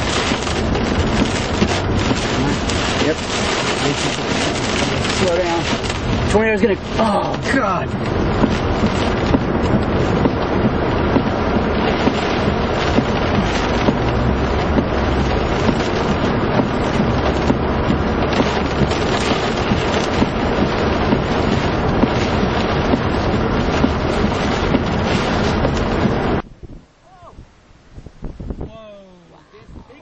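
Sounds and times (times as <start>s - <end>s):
heavy rain: 0.0s - 27.7s
wind: 0.0s - 30.0s.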